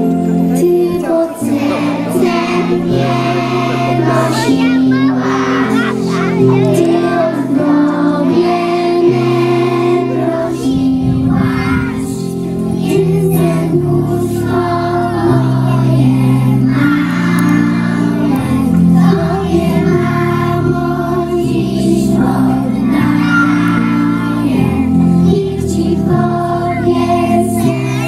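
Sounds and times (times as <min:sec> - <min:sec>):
instrumental accompaniment: 0:00.0 - 0:28.0
young children singing: 0:00.0 - 0:28.0.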